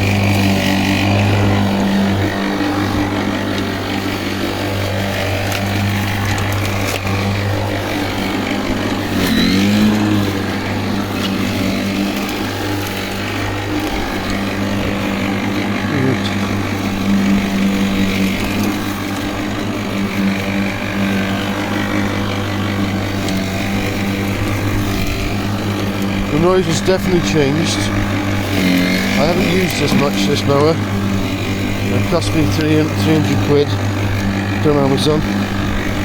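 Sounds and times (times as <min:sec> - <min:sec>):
electric lawnmower humming: 0:00.0 - 0:36.0.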